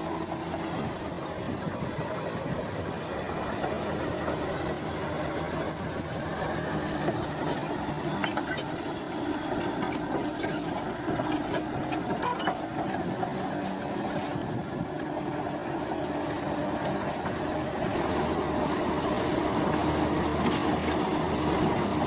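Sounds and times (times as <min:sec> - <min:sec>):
diesel earthmoving machinery running: 0:00.0 - 0:22.0.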